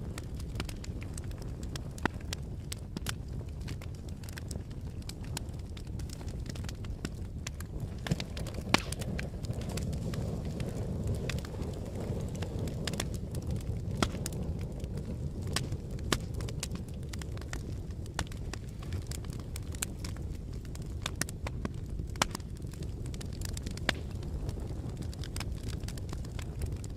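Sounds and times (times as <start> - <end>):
fire burning with crackles: 0.0 - 26.9.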